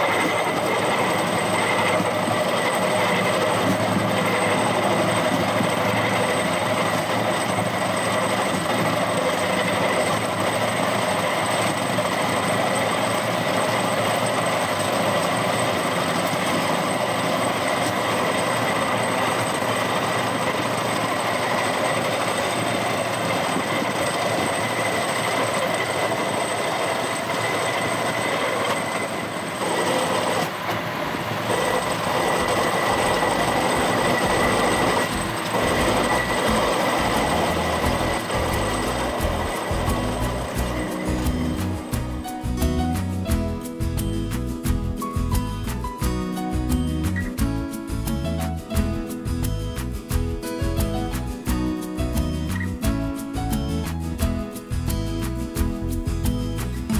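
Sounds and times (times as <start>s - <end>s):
high-pitched ringing whine: 0.0s - 56.9s
wheels rolling on rails: 0.0s - 56.9s.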